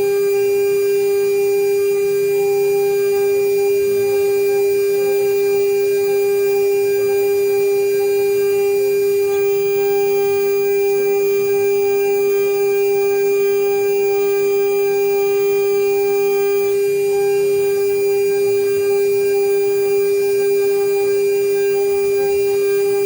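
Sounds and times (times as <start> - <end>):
router spindle whining: 0.0 - 23.0.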